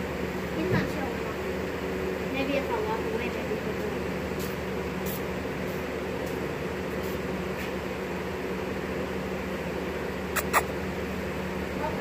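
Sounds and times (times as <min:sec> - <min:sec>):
electric fans whirring: 0:00.0 - 0:12.0.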